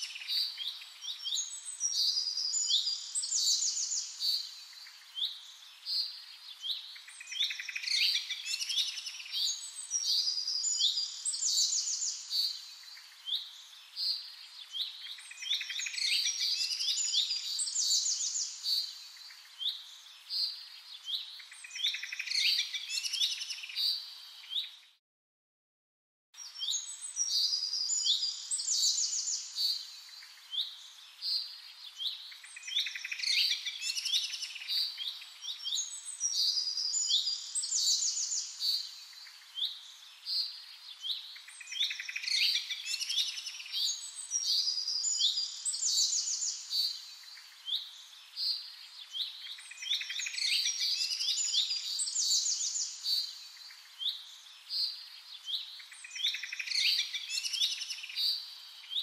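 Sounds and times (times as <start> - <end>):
birds chirping and trilling: 0.0 - 25.0, 26.4 - 59.0.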